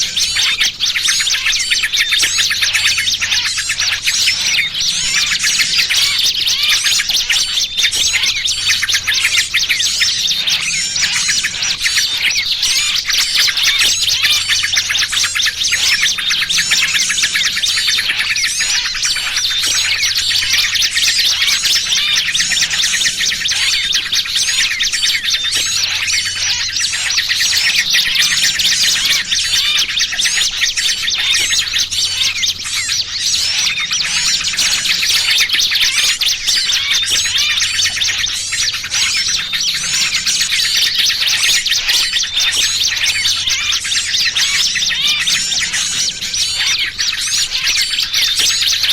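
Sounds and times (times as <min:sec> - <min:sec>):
songbirds chirping and twittering: 0:00.0 - 0:48.9.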